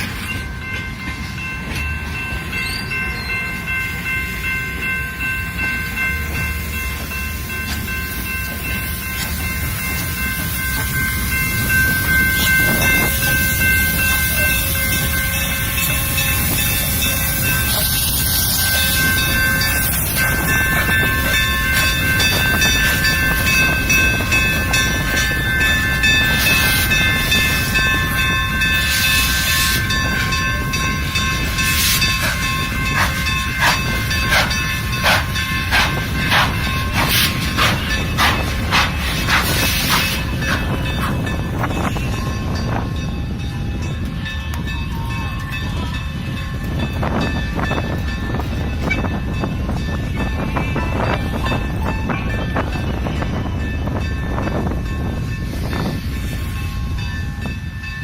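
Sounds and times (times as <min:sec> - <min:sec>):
train cars rumbling on rails: 0:00.0 - 0:58.0.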